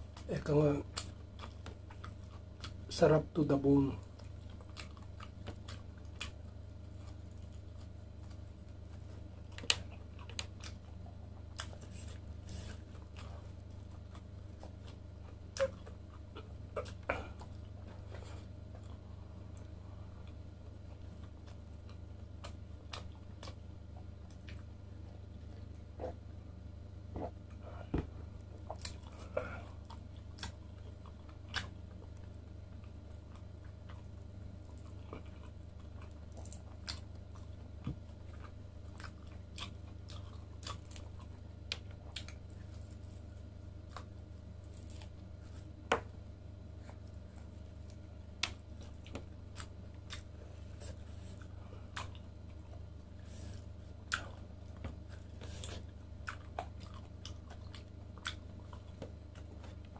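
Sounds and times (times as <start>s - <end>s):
person chewing and biting: 4.0s - 26.3s, 27.1s - 46.1s, 46.8s - 59.9s.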